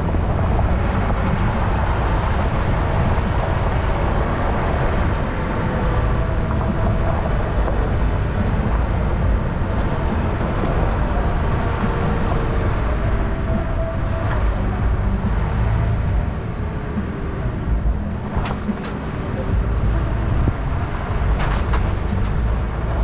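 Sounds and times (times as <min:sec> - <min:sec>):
engine and tyre noise: 0:00.0 - 0:23.0.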